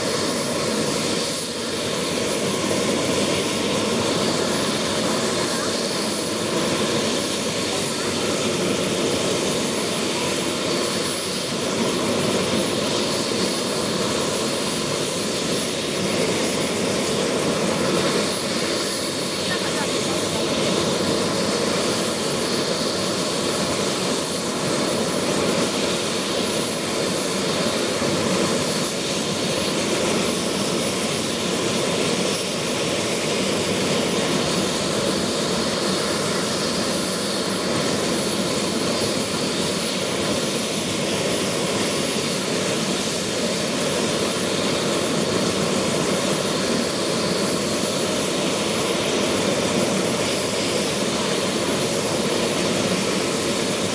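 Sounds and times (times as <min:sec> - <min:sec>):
high turbine whine: 0:00.0 - 0:53.9
turbine engine rush: 0:00.0 - 0:53.9.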